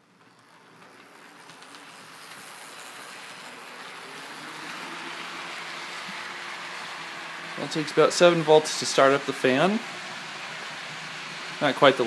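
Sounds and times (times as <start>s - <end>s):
model train motor whirring: 0.0s - 12.0s.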